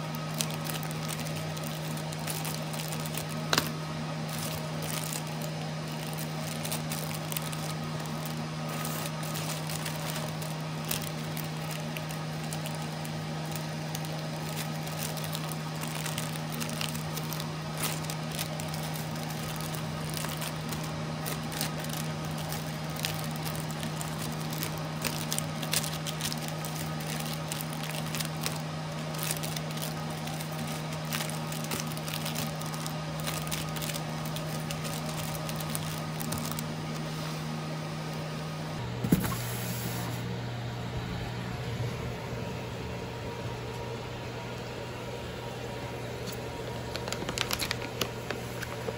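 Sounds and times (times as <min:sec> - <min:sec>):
plastic bags crinkling: 0:00.0 - 0:37.1, 0:46.8 - 0:48.9
steady low hum: 0:00.0 - 0:48.9.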